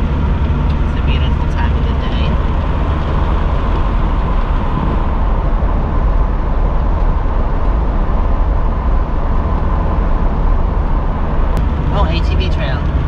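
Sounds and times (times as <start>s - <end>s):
road and engine noise inside vehicle: 0.0s - 13.0s.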